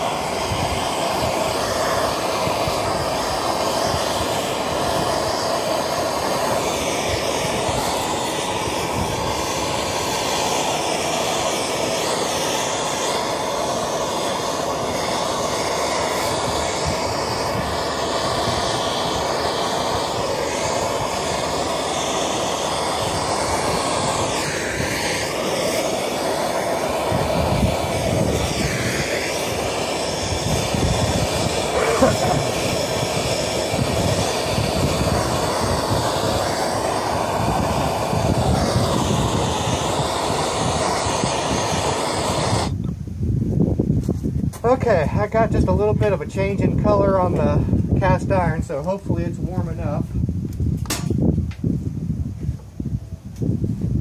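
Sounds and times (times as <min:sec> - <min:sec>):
gas torch flame hissing: 0:00.0 - 0:52.6.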